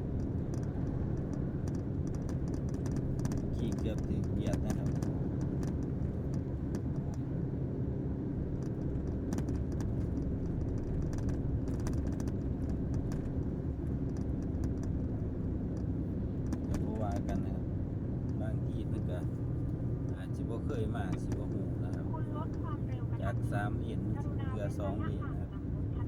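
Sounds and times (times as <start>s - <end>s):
truck engine and road noise: 0.0s - 26.0s
light clicks and rattles: 0.1s - 7.3s, 8.5s - 26.0s.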